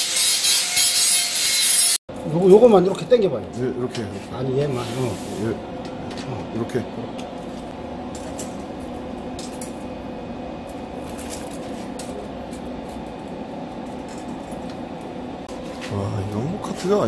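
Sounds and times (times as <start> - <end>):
steady hum: 2.1 - 17.0.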